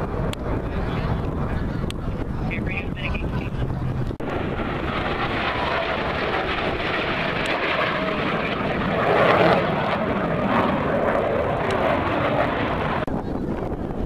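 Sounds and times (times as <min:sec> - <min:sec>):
airplane flying past: 0:00.0 - 0:14.0.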